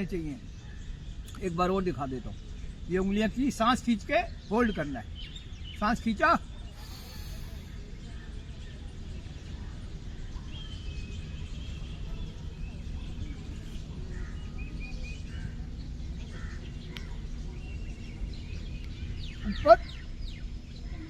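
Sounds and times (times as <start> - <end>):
bird chirps and calls: 0.0 - 21.0
low steady rumble: 0.0 - 21.0.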